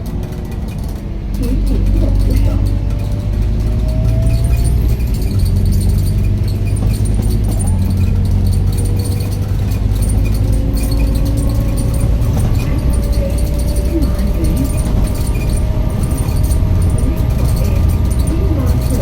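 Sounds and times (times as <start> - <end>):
bus engine drone: 0.0 - 19.0
rattling bus fittings: 0.0 - 19.0.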